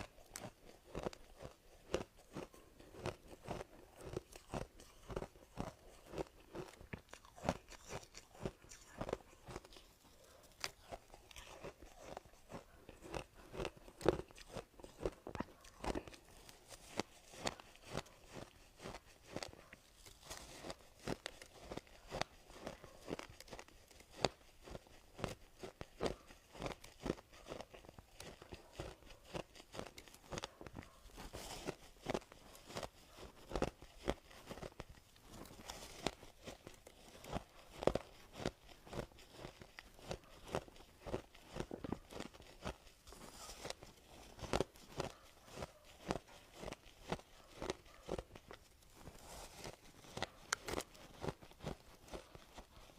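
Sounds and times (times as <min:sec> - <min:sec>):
ice being chewed: 0:00.0 - 0:52.9.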